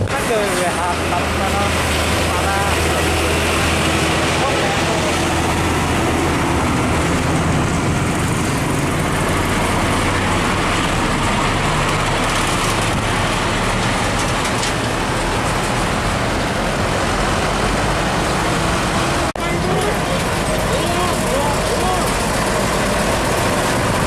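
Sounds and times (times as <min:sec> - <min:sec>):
diesel trucks driving past: 0:00.0 - 0:24.0
tyre noise on road: 0:00.0 - 0:24.0.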